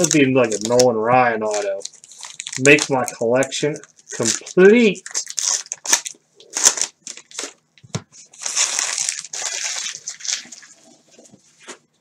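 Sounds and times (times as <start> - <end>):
plastic wrapper crinkling: 0.0 - 11.3.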